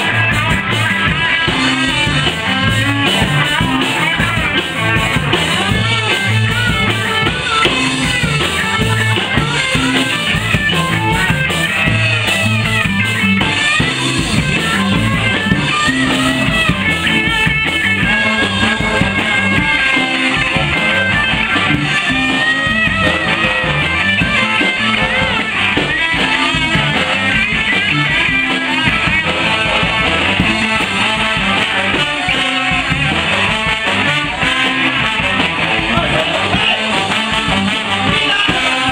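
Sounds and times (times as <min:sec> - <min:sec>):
horn section: 0:00.0 - 0:38.9
rock band playing: 0:00.0 - 0:38.9.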